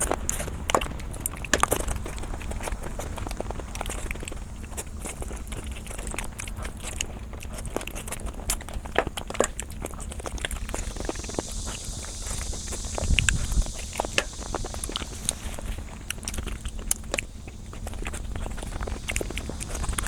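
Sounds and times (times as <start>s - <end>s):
low hum: 0.0s - 20.0s
person chewing and crunching food: 0.0s - 20.0s
sharp crackles and clicks: 0.0s - 20.0s.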